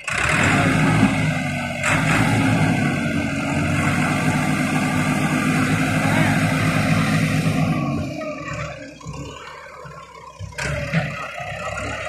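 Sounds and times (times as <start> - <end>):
tractor diesel engine: 0.0 - 12.0.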